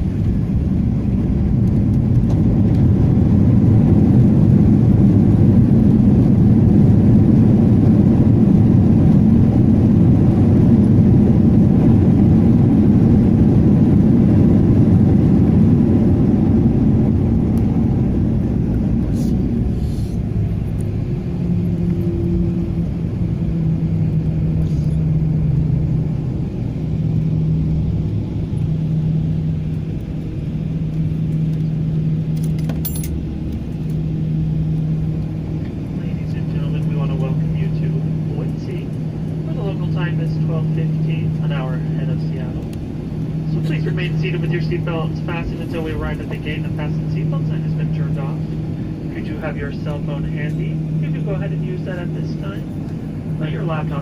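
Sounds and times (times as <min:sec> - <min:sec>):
airliner wheels rumbling: 0:00.0 - 0:54.0
low engine hum: 0:00.0 - 0:54.0.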